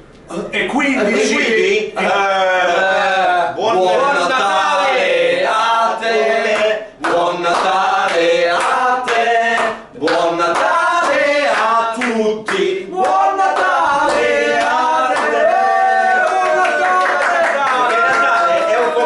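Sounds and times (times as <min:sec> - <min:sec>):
men singing together: 0:01.3 - 0:16.7.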